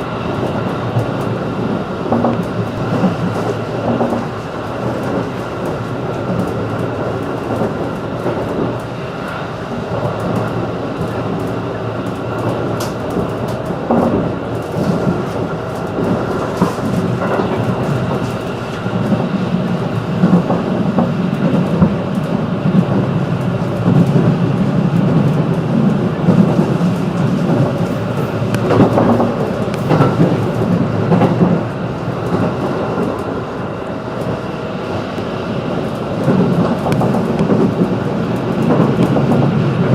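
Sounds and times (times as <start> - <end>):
rail joint clicks: 0.0 - 39.9
train wheels and motors rumbling: 0.0 - 39.9.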